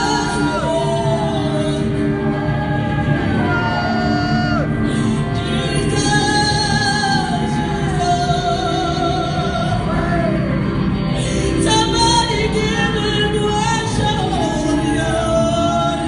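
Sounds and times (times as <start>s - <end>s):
electric guitar: 0.0s - 16.0s
woman singing: 0.0s - 16.0s.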